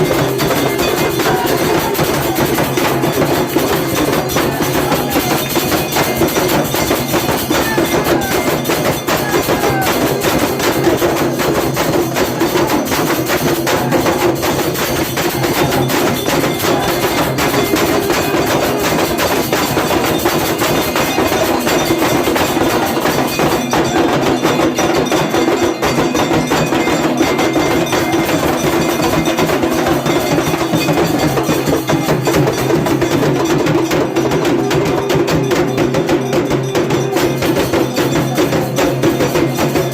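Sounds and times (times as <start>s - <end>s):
percussion struck rapidly: 0.0s - 39.9s
temple bells ringing: 0.0s - 39.9s.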